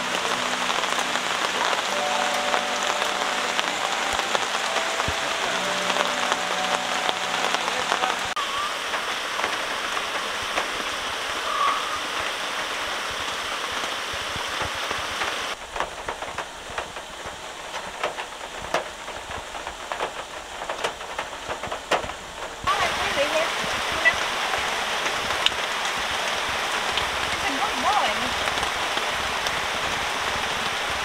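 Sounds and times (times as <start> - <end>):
heavy rain falling: 0.0 - 31.0
raindrops striking: 0.0 - 31.0.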